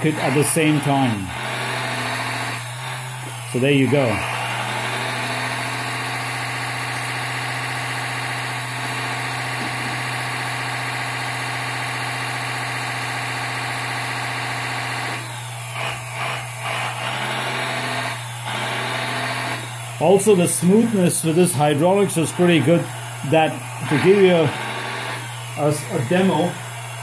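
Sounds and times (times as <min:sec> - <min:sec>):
hydraulic pump whining: 0:00.0 - 0:27.0.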